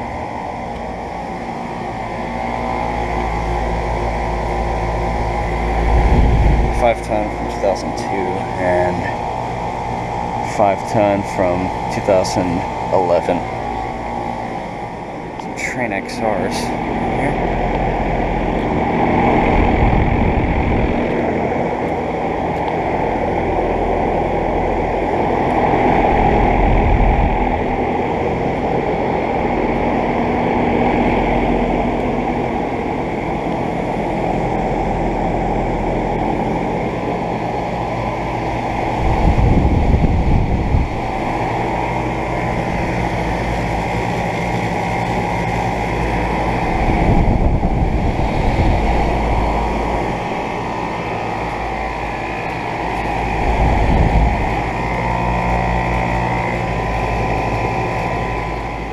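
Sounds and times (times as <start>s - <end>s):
condenser fans whooshing: 0.0s - 58.9s
low compressor hum: 0.0s - 58.9s.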